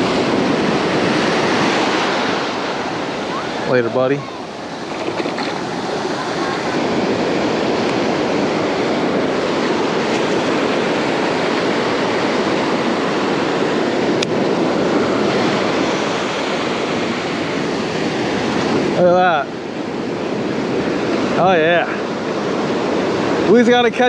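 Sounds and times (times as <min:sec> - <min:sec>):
ocean surf breaking: 0:00.0 - 0:24.0.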